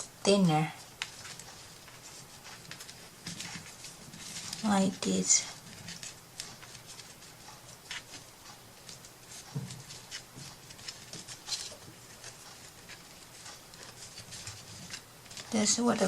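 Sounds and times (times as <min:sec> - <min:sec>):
soft handling rustles: 0:00.5 - 0:16.0.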